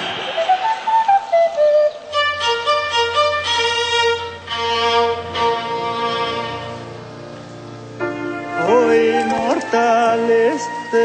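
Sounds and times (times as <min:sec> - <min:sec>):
piano accompaniment: 0:00.2 - 0:11.0
violin melody: 0:00.4 - 0:11.0.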